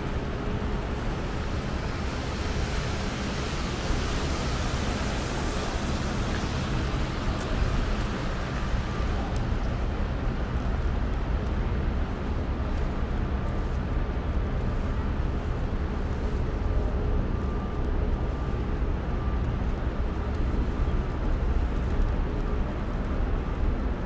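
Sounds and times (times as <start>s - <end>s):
traffic: 0.0s - 24.0s.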